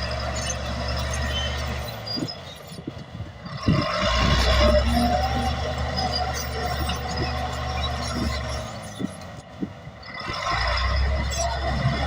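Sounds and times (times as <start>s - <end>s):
bulldozer engine rumble: 0.0s - 12.0s.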